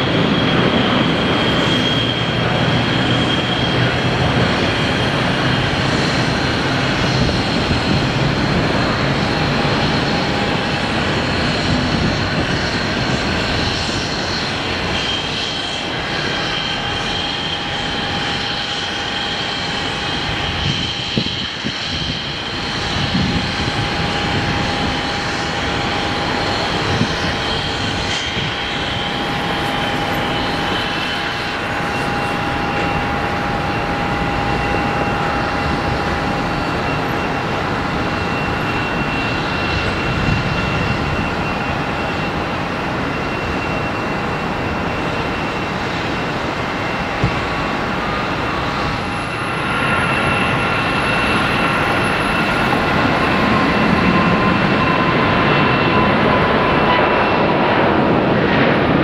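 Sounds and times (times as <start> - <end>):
jet airliner climbing: 0.0 - 59.0.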